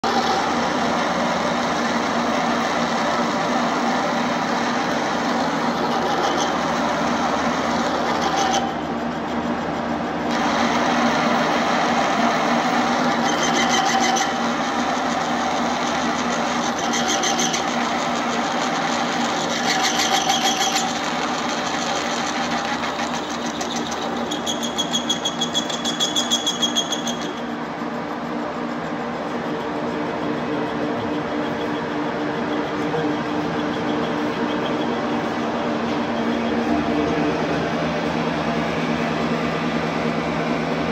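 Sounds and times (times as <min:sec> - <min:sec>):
lathe machine hum: 0:00.0 - 0:40.9.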